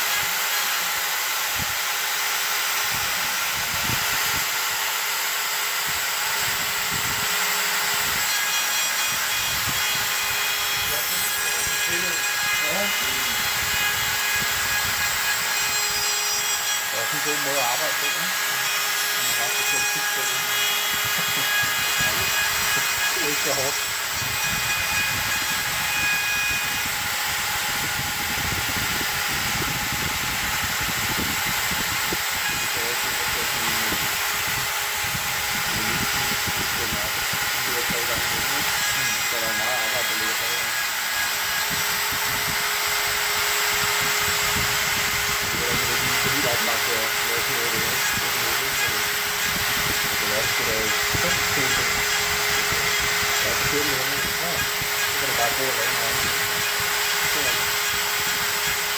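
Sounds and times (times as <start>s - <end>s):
router spindle milling hiss: 0.0s - 58.9s.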